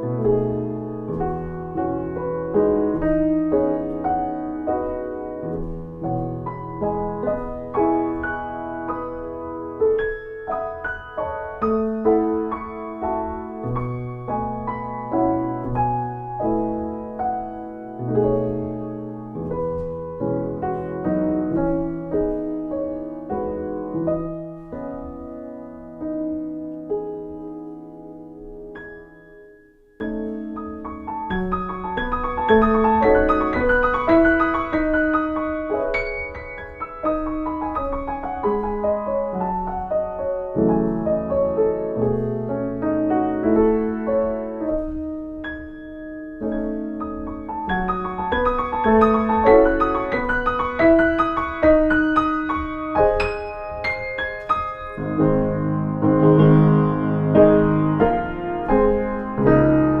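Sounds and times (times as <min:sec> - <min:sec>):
solo piano: 0:00.0 - 1:00.0.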